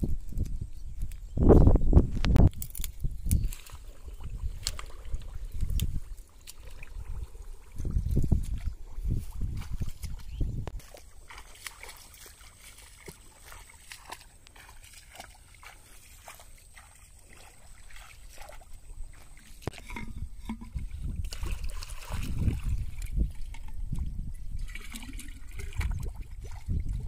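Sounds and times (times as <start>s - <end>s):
small water drips: 2.5s - 27.0s
shallow water sloshing and splashing: 3.4s - 27.0s.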